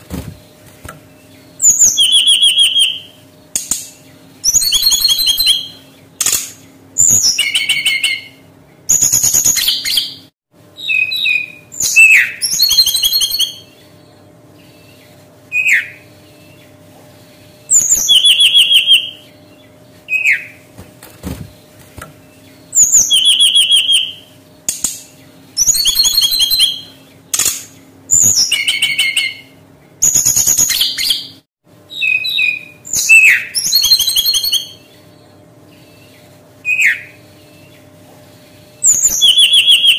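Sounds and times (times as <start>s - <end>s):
bird singing trills and whistles: 0.2s - 20.7s, 21.6s - 38.0s, 38.8s - 39.9s.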